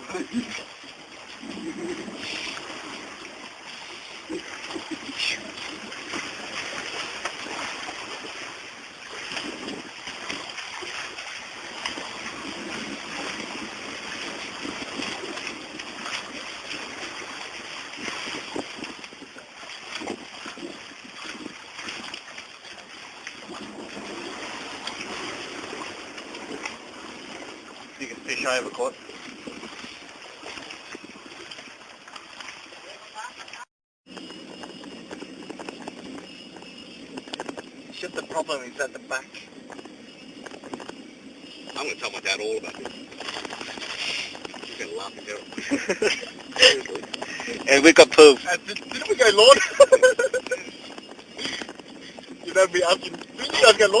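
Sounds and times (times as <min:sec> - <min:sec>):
water splashing around boat: 0:00.0 - 0:54.0.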